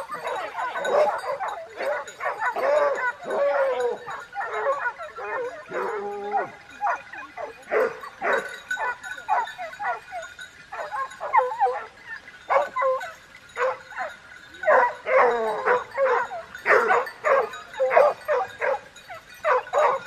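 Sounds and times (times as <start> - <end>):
dogs barking and yelping: 0.0 - 20.0.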